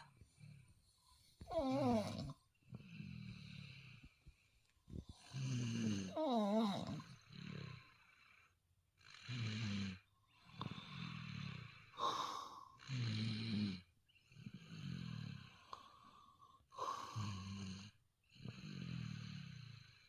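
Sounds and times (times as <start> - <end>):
people snoring: 0.0 - 4.3, 5.0 - 20.0.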